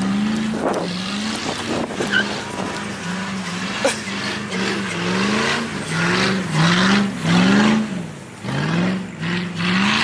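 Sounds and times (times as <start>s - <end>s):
car engine revving hard: 0.0s - 10.0s
tyres spinning on snow: 0.0s - 10.0s.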